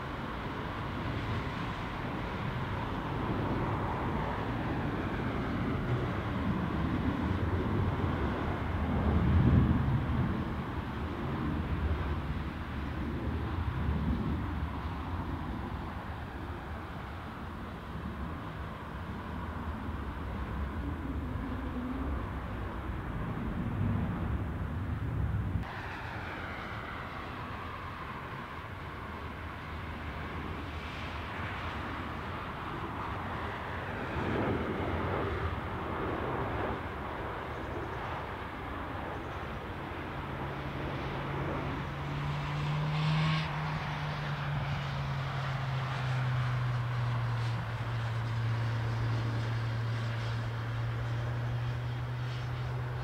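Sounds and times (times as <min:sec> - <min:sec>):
jet engines rushing: 0:00.0 - 0:53.0
low engine hum: 0:00.0 - 0:53.0.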